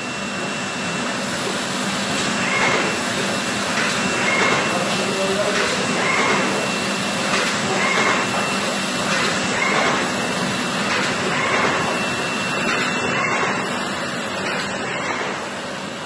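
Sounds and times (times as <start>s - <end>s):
packaging machine mechanical din: 0.0s - 16.0s.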